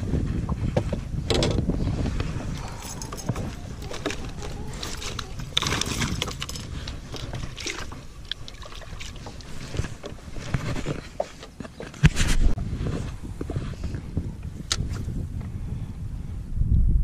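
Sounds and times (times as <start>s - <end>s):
low rumbling: 0.0s - 11.1s, 12.3s - 17.0s.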